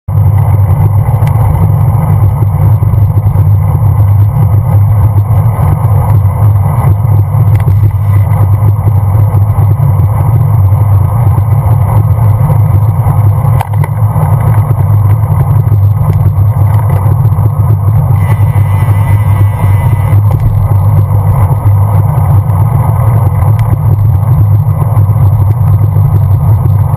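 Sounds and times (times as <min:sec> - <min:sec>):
road vibration rumble: 0:00.1 - 0:26.9
wind buffeting a camera: 0:00.1 - 0:26.9.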